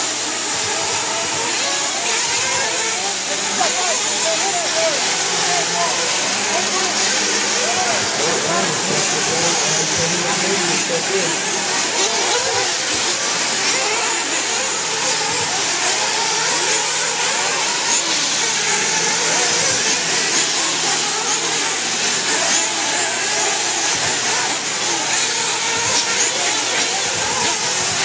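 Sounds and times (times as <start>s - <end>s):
model buggy engines revving: 0.0s - 28.0s.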